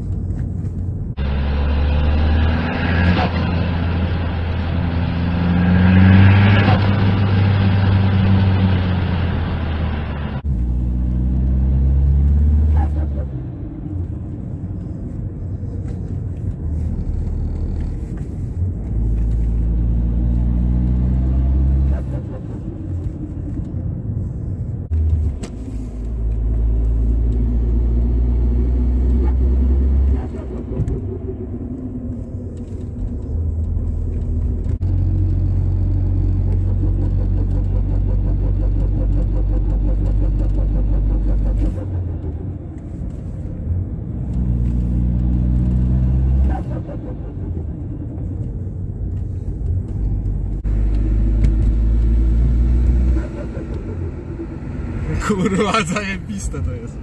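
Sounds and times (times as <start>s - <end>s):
diesel car engine pulling hard: 1.2s - 15.0s, 24.8s - 57.0s.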